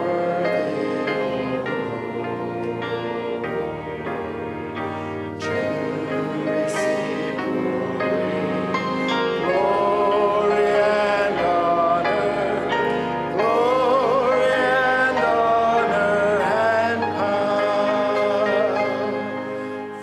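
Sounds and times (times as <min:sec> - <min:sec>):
hymn singing: 0:00.0 - 0:20.0
instrumental accompaniment: 0:00.0 - 0:20.0.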